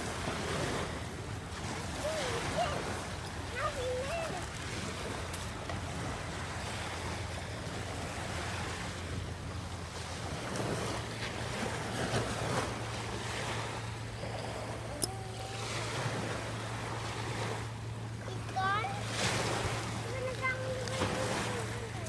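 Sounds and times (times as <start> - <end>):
waves washing on pebble beach: 0.0 - 22.0.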